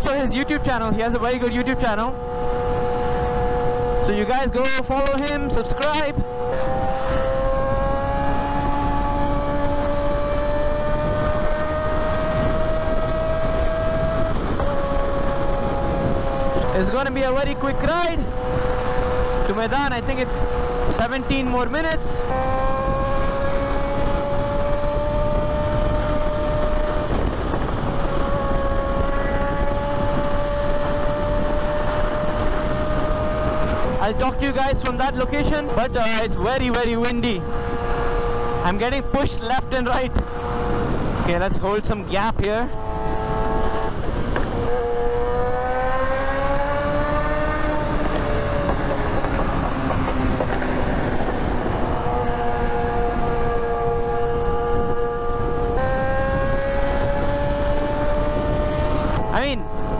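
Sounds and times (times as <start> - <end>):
motorcycle engine whine: 0.0 - 59.9
wind rush on microphone: 0.0 - 59.9.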